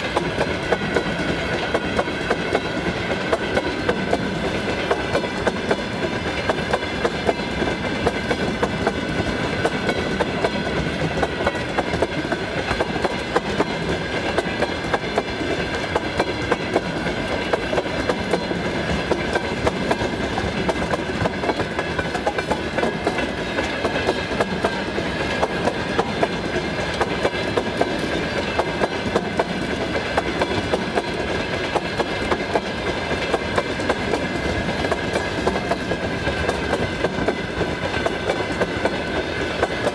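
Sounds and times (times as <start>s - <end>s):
train rumble: 0.0s - 39.9s
train wheels clicking over rail joints: 0.0s - 39.9s.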